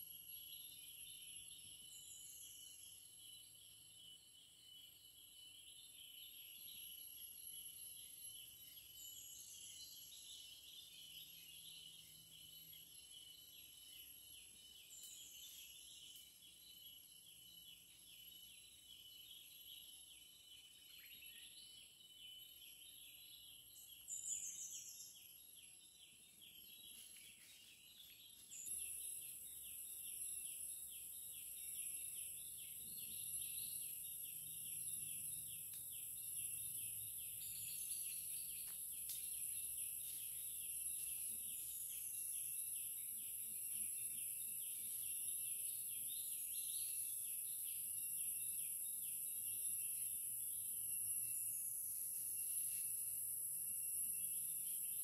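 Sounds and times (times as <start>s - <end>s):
high-pitched insect whine: 5.6s - 25.5s, 26.6s - 55.0s.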